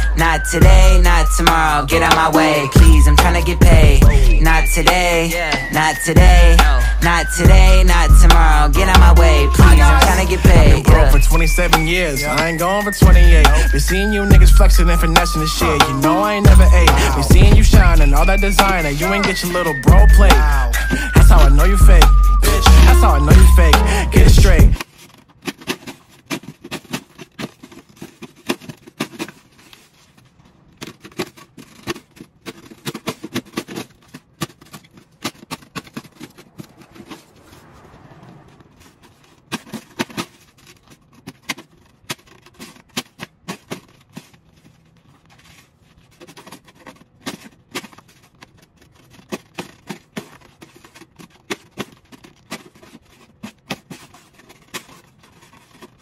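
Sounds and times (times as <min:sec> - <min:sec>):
snow shovel scraping on deck: 0:00.0 - 0:56.0.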